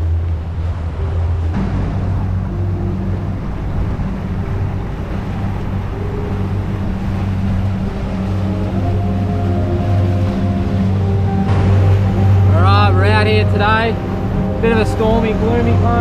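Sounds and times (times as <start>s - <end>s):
boat engine drone: 0.0s - 16.0s
water noise: 0.0s - 16.0s
wind: 0.0s - 16.0s.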